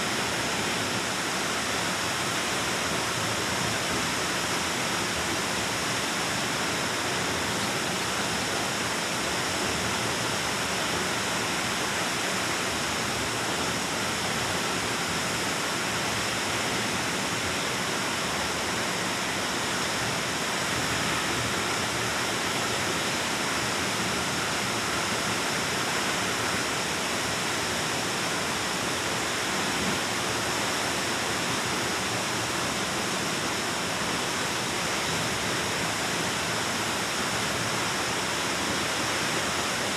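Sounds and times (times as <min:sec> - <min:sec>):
waterfall echoing in cave: 0:00.0 - 0:39.9.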